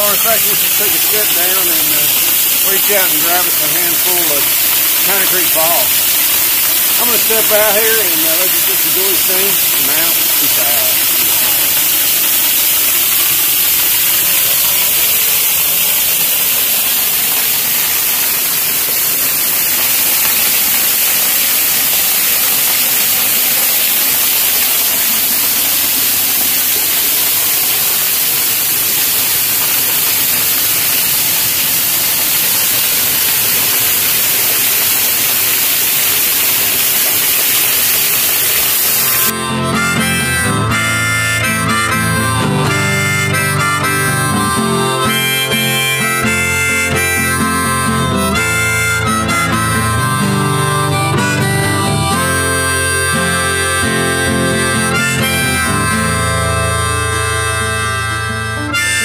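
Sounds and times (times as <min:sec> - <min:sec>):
waterfall rushing: 0:00.0 - 0:57.5.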